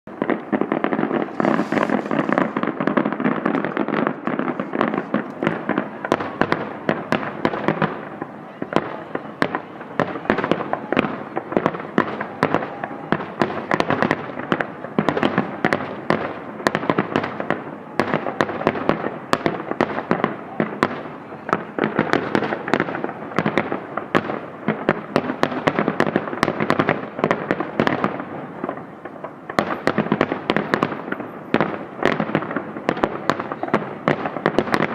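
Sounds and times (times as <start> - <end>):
crackling rumble of fireworks: 0.0 - 34.9
fireworks bangs: 0.1 - 34.9.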